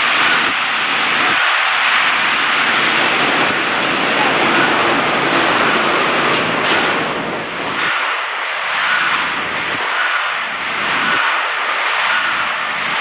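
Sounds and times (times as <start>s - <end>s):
welding machine mechanical din: 0.0s - 13.0s.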